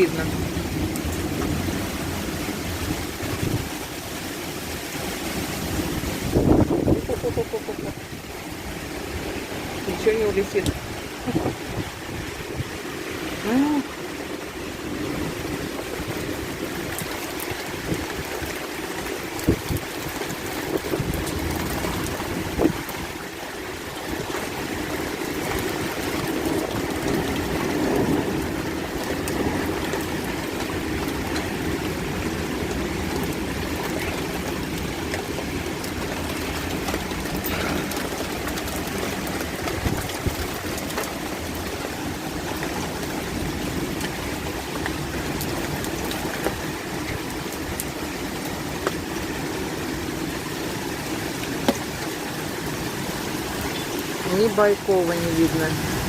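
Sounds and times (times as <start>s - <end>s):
heavy rain pouring: 0.0s - 56.0s
water running and trickling: 0.0s - 56.0s.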